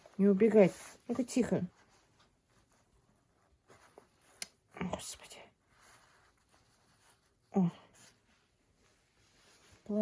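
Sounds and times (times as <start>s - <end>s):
faint rustle: 0.0s - 10.0s.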